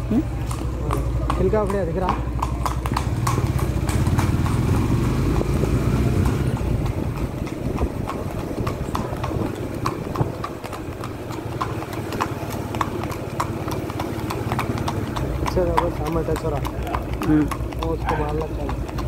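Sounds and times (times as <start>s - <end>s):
horse hooves clip-clopping on road: 0.0s - 19.0s
motorcycle engine rumble: 0.0s - 19.0s.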